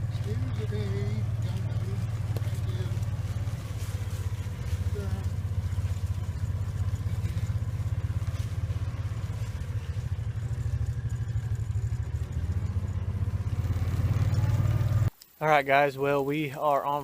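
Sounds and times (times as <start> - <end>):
vehicle engine running at low revs: 0.0 - 15.2.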